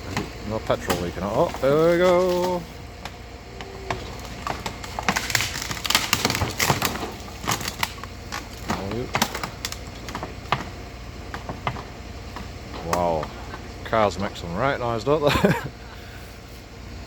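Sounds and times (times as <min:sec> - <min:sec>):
car bodywork scraping and crunching: 0:00.0 - 0:15.7.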